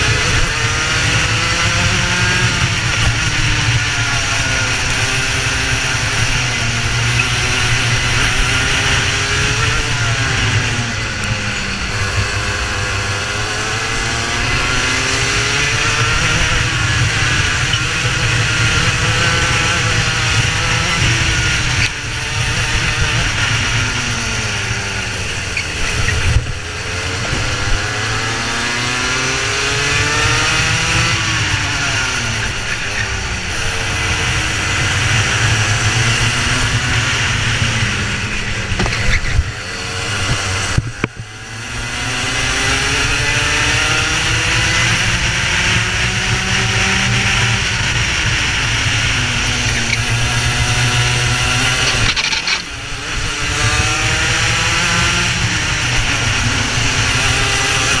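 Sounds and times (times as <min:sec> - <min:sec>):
kart engines accelerating: 0:00.0 - 0:58.0.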